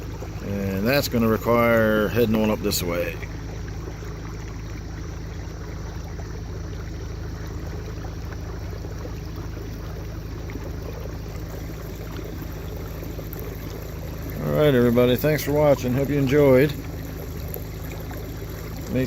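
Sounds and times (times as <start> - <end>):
low hum: 0.0 - 19.0
water rushing along kayak hull: 0.0 - 19.0.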